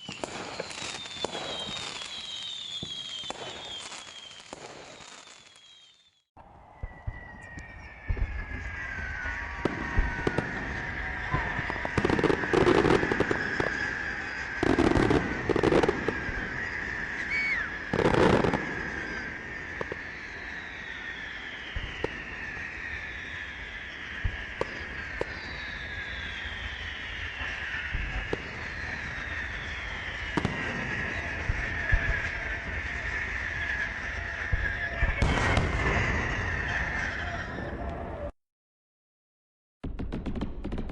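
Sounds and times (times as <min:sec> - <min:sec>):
fireworks loud bursts: 0:00.0 - 0:06.2, 0:06.8 - 0:38.3, 0:39.8 - 0:40.9
fireworks whistling: 0:00.0 - 0:38.3, 0:39.8 - 0:40.9.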